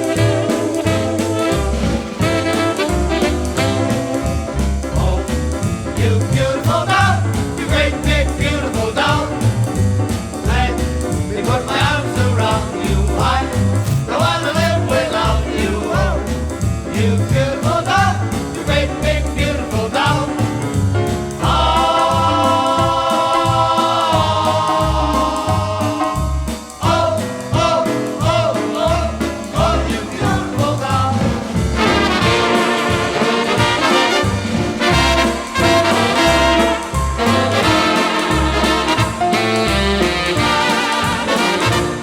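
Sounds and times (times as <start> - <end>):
steady bass beat: 0.0 - 39.4
dance band brass: 0.0 - 42.0.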